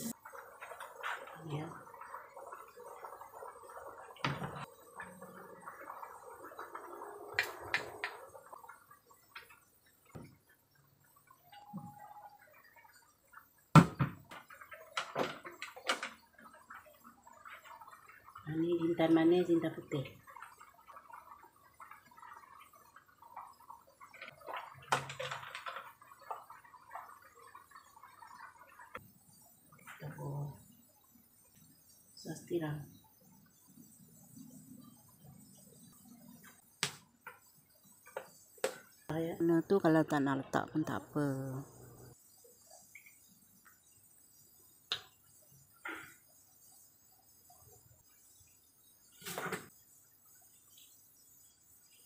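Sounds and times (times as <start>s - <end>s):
cooking oil glugging and gurgling: 0.0s - 52.0s.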